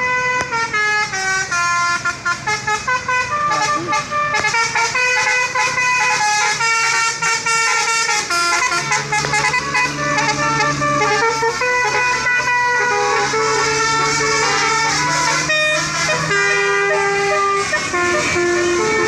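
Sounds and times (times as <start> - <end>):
low held horn tone: 0.0 - 19.0
musical bus horns playing tune: 0.0 - 19.0.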